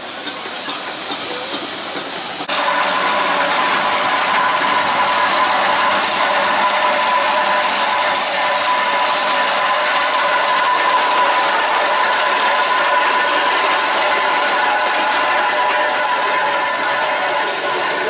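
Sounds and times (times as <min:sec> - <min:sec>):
steam hissing: 0:00.0 - 0:18.0
steady high tone: 0:02.5 - 0:18.0.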